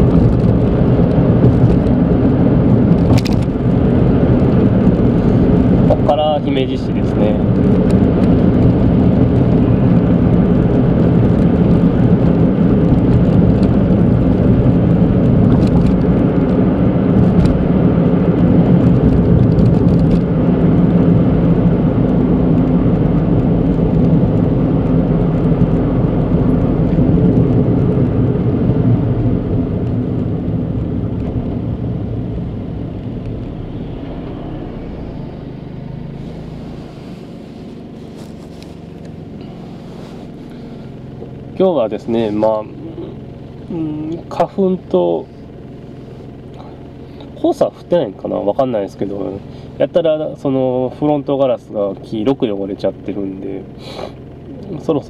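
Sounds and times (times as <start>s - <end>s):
car engine humming: 0.0s - 55.0s
tyre and road noise: 0.0s - 55.0s.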